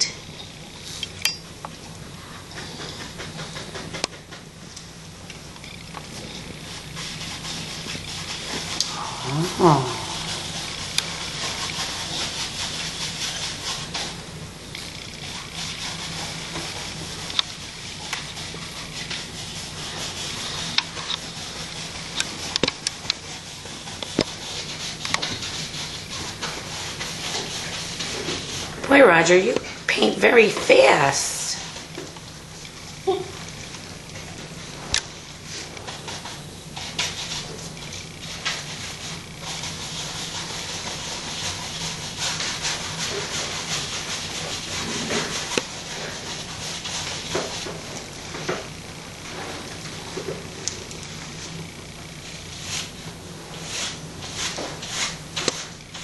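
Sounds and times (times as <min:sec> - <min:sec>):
paintbrush scrubbing on canvas: 0:06.1 - 0:33.0, 0:33.6 - 0:56.0.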